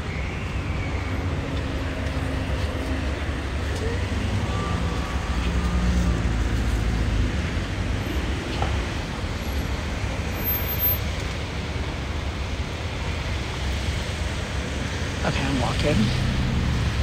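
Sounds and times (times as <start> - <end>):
passing vehicles rumbling: 0.0 - 17.0.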